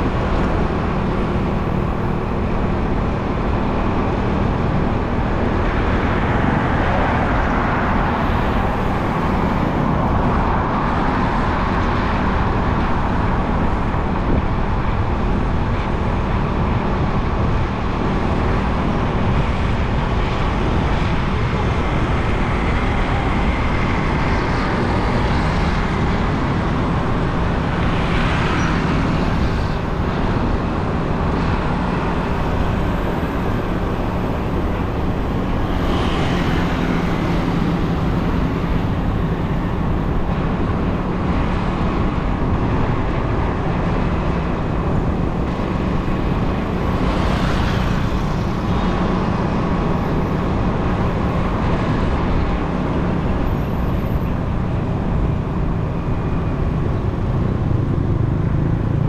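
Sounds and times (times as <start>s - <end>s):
motorcycle engine and wind noise: 0.0s - 59.0s
traffic passing by: 0.0s - 59.0s.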